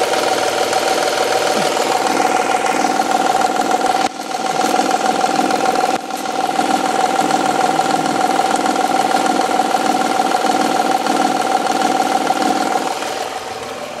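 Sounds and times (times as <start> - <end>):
car engine idling: 0.0 - 14.0
rapid engine knocking: 0.0 - 14.0.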